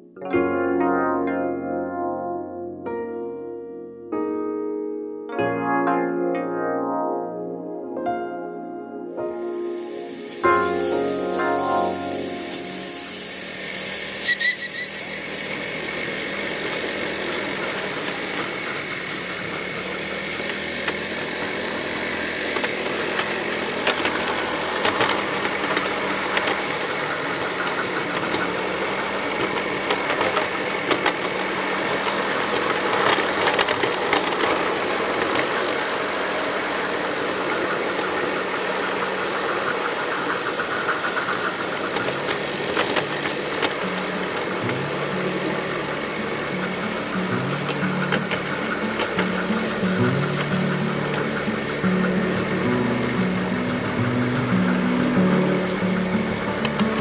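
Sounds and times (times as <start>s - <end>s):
model steam locomotive running: 9.5s - 57.0s
wheels clicking on rails: 9.8s - 57.0s.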